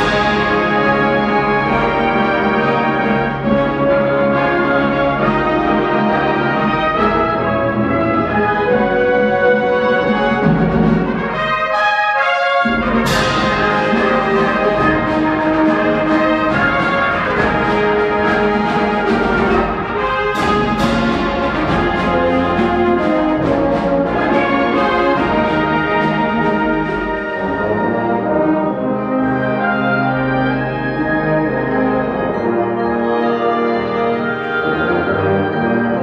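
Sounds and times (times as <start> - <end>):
brass band sustained chords: 0.0 - 36.0.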